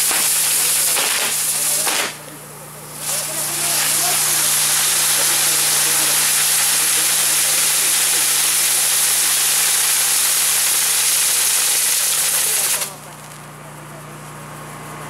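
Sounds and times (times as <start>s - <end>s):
firework fountains hissing: 0.0s - 14.5s.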